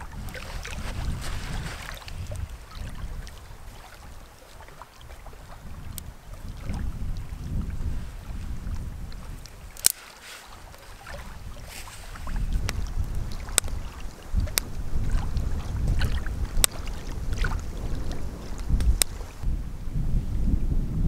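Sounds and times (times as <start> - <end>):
wind buffeting microphone: 0.0 - 9.8, 10.4 - 21.0.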